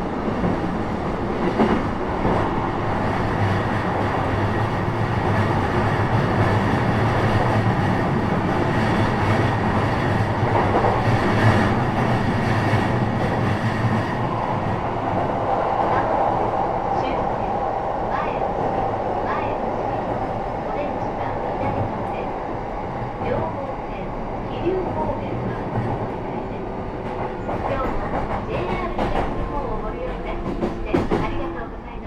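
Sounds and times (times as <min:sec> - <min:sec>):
rail clicks: 0:00.0 - 0:32.0
train wheels rumbling on rails: 0:00.0 - 0:32.0.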